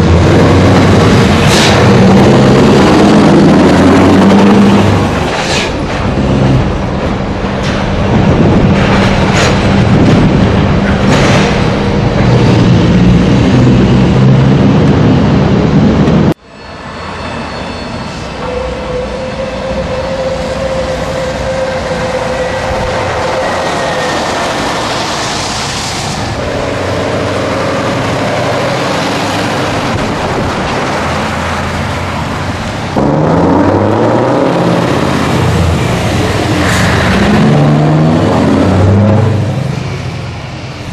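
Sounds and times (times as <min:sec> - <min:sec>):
truck engine deep hum: 0:00.0 - 0:16.4, 0:19.2 - 0:40.9.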